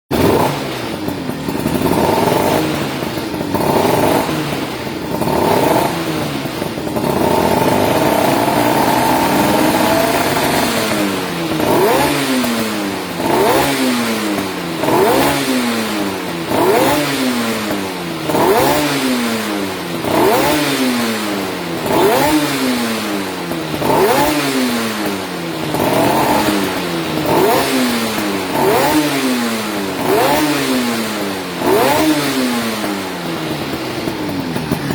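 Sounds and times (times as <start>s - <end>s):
two-stroke motorbike engine revving: 0.1s - 34.9s.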